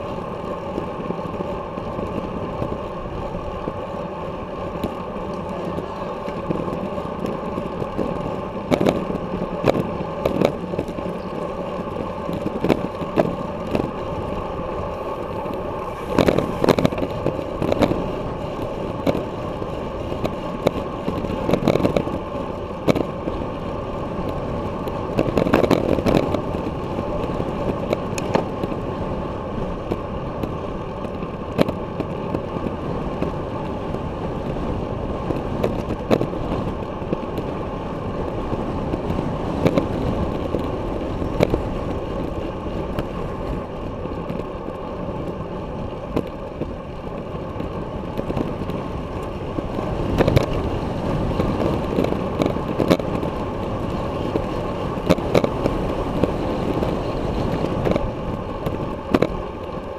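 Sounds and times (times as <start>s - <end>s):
bicycle tyre noise on concrete: 0.0s - 59.9s
wind rushing over microphone: 0.0s - 59.9s.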